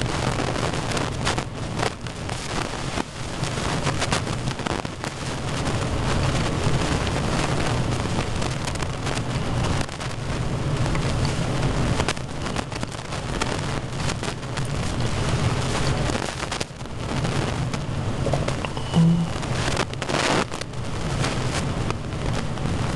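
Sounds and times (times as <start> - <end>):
rain drops hitting: 0.0 - 18.8, 19.4 - 22.9.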